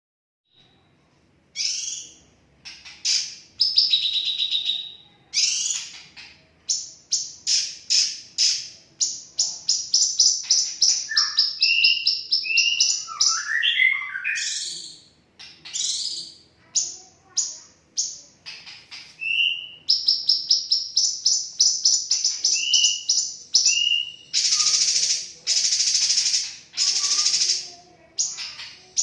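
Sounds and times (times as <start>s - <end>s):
songbird singing: 1.6s - 29.0s.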